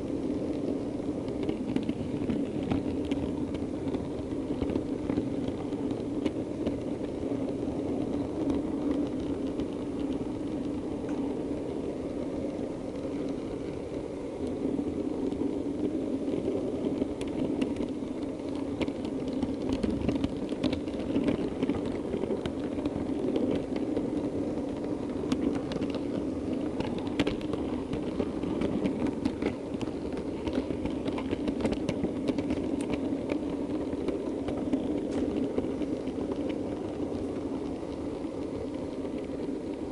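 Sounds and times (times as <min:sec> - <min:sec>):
model train mechanical hum: 0:00.0 - 0:39.9
wheels clicking over rail joints: 0:00.0 - 0:39.9.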